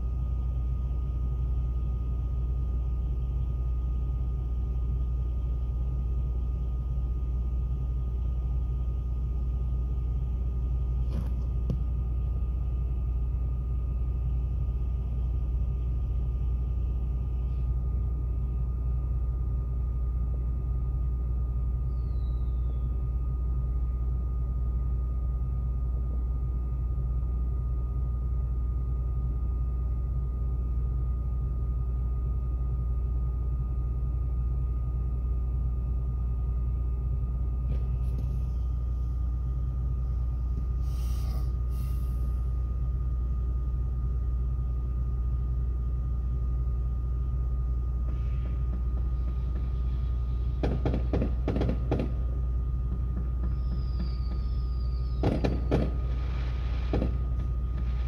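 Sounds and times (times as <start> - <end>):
faint steady whine: 0.0 - 58.0
vehicle engines idling: 0.0 - 58.0.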